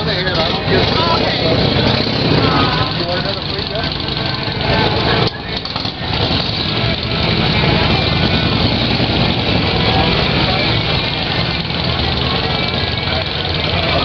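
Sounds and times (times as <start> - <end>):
crowd voices: 0.0 - 14.0
motorcycle engines at low revs: 0.0 - 14.0.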